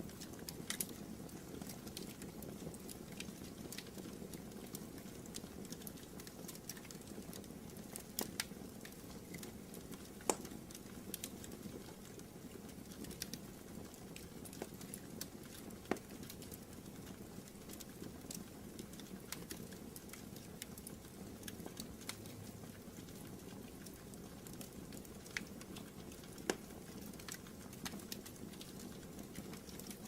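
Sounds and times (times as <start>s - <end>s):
fire crackles and pops: 0.0s - 30.0s.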